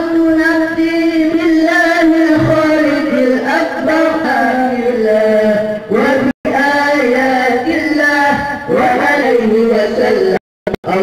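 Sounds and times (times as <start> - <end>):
man chanting religious recitation: 0.0 - 11.0.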